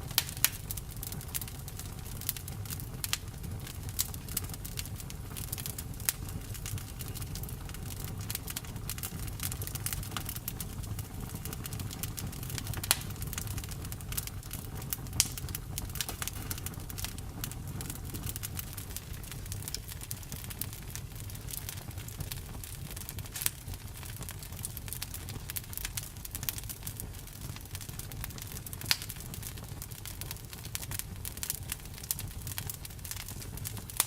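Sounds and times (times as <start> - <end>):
campfire crackling and popping: 0.0 - 34.0
fire low rumble: 0.0 - 34.0.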